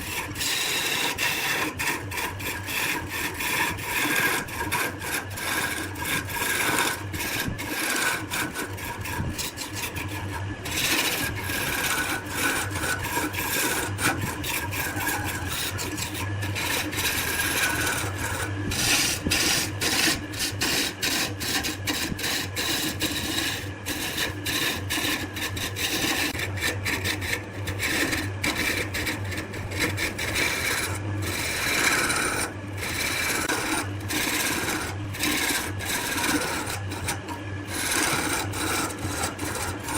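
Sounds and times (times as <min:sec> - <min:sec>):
cutting tool scraping spinning wood: 0:00.0 - 0:39.9
low motor hum: 0:00.0 - 0:39.9.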